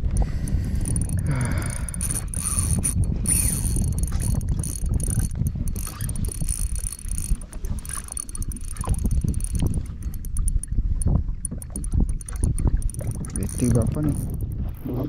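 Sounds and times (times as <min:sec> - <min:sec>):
water noise: 0:00.0 - 0:15.0
wind rumble on microphone: 0:00.0 - 0:15.0
small mechanism whirring and ratcheting: 0:00.4 - 0:15.0.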